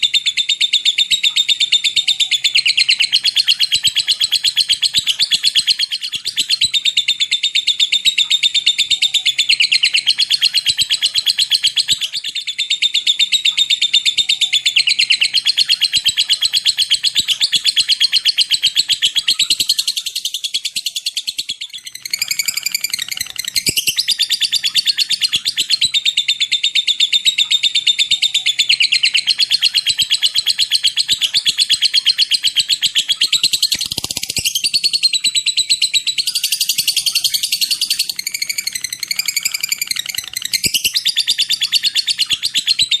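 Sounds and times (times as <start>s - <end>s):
lovebird chattering trill: 0.0s - 43.0s.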